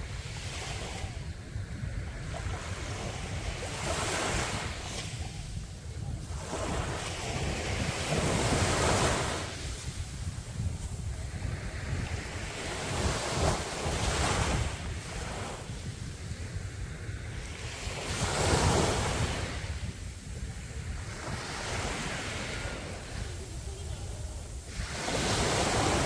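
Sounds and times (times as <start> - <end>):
sea waves breaking on shore: 0.0 - 26.0
wind rumble on microphone: 0.0 - 26.0.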